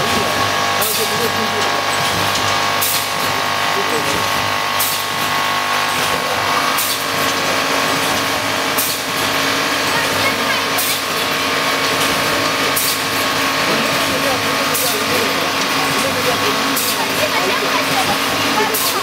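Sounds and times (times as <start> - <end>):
packaging machine humming: 0.0 - 19.0.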